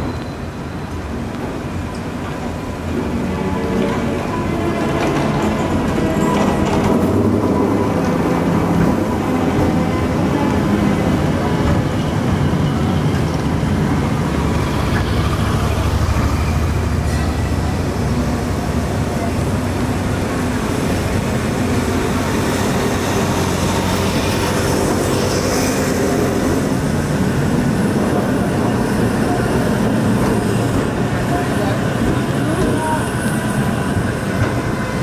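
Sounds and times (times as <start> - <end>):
trams rumbling on rails: 0.0 - 35.0.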